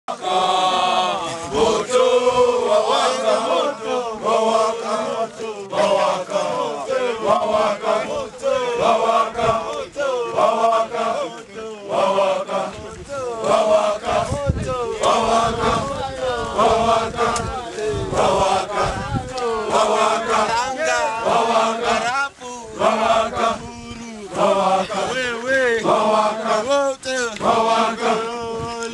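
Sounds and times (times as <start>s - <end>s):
group singing rhythmic chant: 0.1s - 28.9s.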